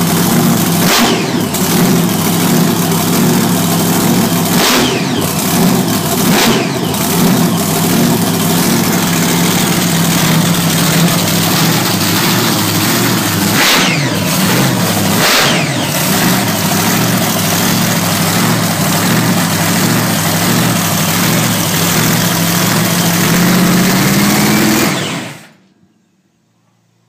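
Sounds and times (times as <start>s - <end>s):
supercharged engine idling and revving: 0.0s - 25.6s.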